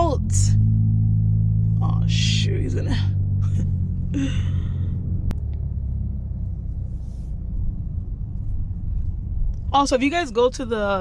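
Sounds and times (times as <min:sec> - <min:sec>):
car engine drone from inside: 0:00.0 - 0:11.0.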